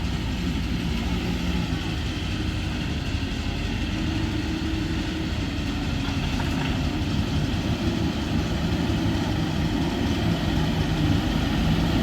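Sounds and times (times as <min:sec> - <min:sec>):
heavy vehicle engine humming: 0:00.0 - 0:12.0.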